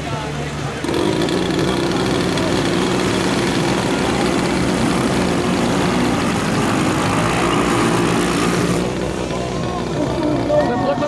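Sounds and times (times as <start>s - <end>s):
model airplane engine running: 0.8s - 11.0s.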